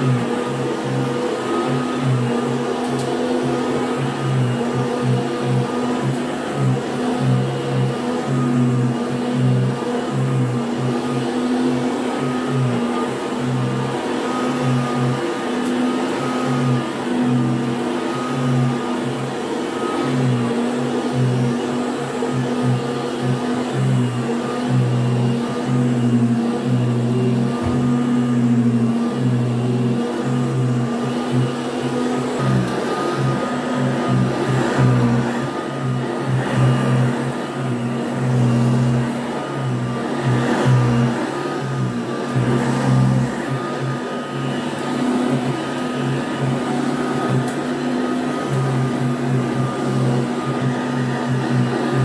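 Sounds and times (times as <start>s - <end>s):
vacuum cleaner on carpet: 0.0s - 52.0s.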